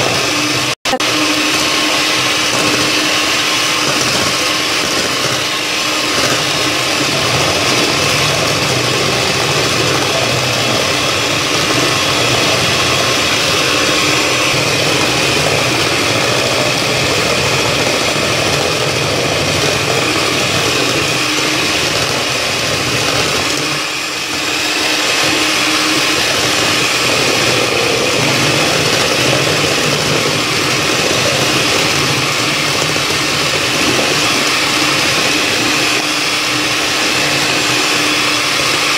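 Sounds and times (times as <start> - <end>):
electric mixer running: 0.0 - 38.9.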